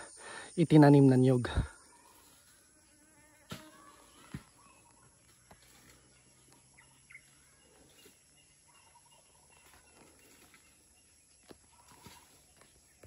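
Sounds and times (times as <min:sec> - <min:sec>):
faint bird chirps: 0:00.0 - 0:02.8, 0:03.7 - 0:13.0.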